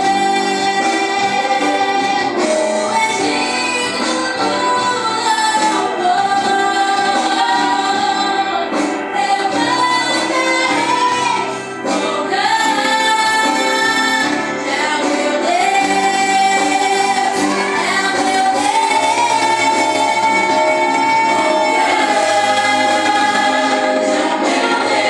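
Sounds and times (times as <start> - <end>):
band accompaniment: 0.0 - 25.0
women singing worship song: 0.0 - 25.0.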